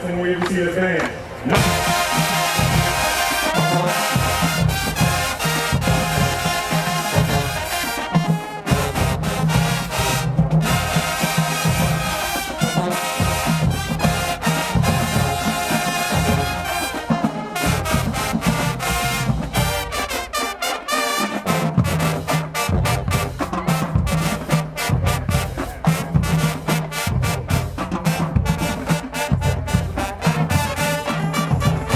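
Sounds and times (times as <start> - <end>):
marching band playing: 0.0 - 31.9.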